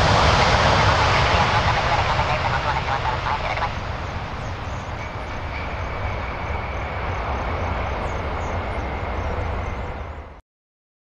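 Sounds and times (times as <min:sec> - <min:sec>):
faint high whine: 0:00.0 - 0:10.4
jet engines rushing and rumbling: 0:00.0 - 0:10.4.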